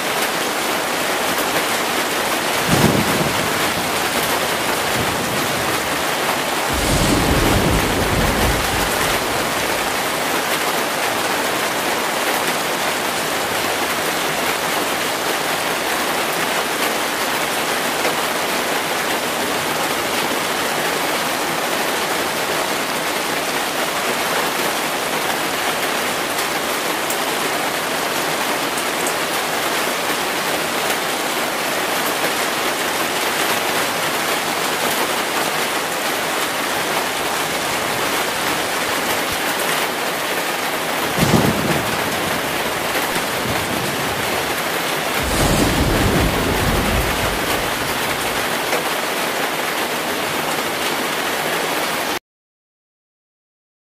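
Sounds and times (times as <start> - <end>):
heavy rain on water: 0.0 - 52.2.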